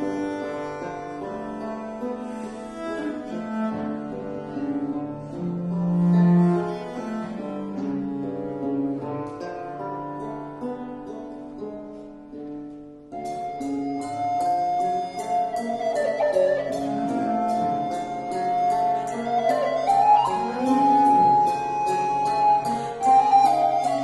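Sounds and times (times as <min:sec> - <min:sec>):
plucked chords: 0:00.0 - 0:24.0.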